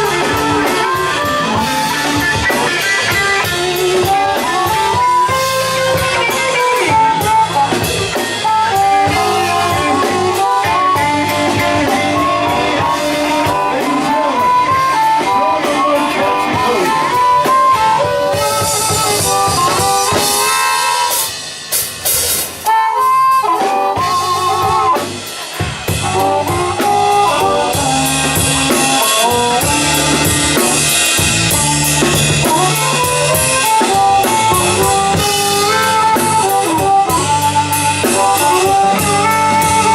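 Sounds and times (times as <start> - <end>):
blues band playing: 0.0 - 39.9
melodic lead instrument: 0.0 - 39.9.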